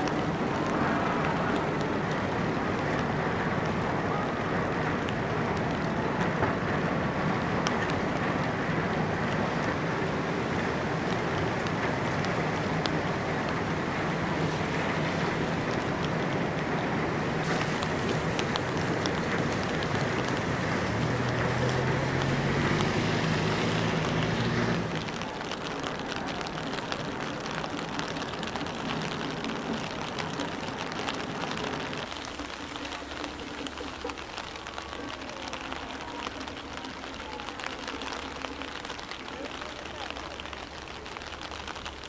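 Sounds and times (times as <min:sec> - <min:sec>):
rain pattering: 0:00.0 - 0:42.0.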